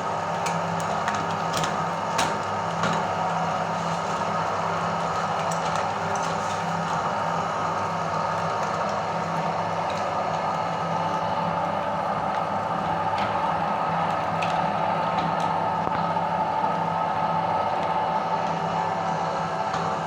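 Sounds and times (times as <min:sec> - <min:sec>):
meat grinder motor hum: 0:00.0 - 0:20.0.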